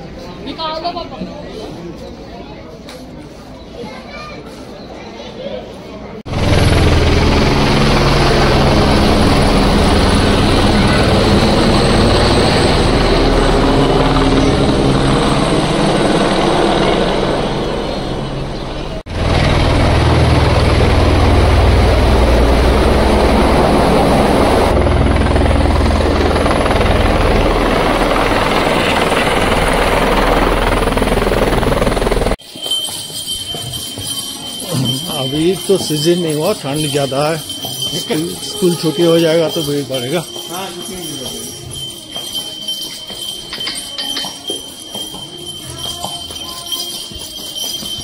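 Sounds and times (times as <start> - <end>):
helicopter rotor and engine: 6.3 - 32.4, 33.4 - 47.3.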